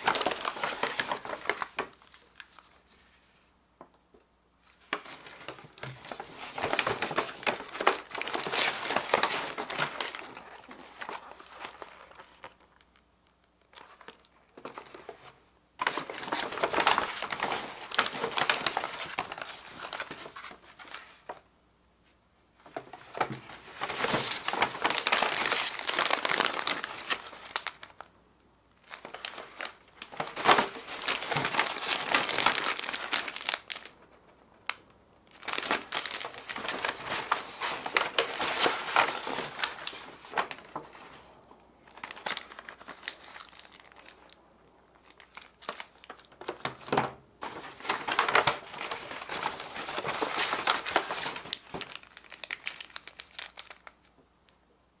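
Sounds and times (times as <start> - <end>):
plastic packets crinkling: 0.0 - 3.0, 4.6 - 13.0, 15.8 - 21.4, 22.7 - 28.1, 28.8 - 54.1
paper bag rustling: 0.0 - 3.4, 4.7 - 12.5, 13.8 - 21.4, 22.7 - 28.1, 28.8 - 34.0, 35.3 - 44.3, 45.0 - 53.9.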